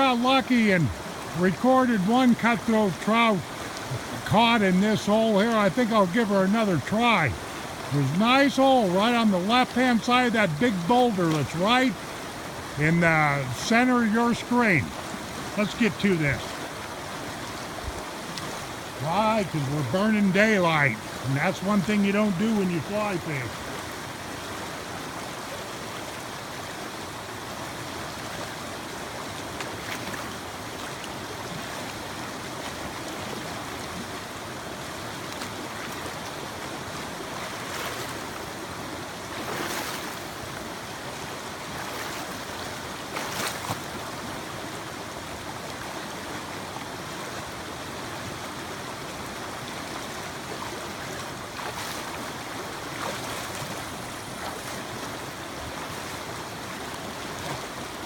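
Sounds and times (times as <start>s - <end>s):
creek water running over rocks: 0.0s - 58.0s.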